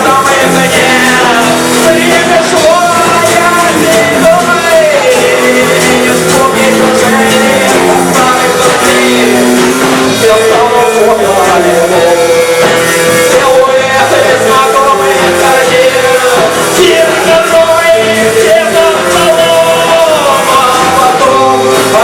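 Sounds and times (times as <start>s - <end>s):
live rock band music: 0.0s - 22.0s.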